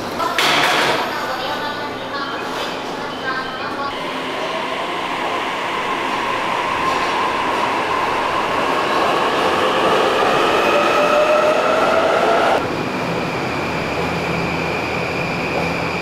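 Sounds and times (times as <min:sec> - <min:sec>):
train rolling noise: 0:00.0 - 0:16.0.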